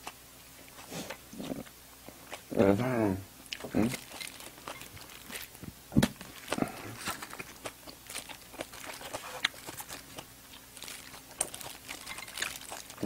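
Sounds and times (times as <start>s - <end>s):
mouth chewing food: 0.0s - 2.8s, 3.4s - 13.0s.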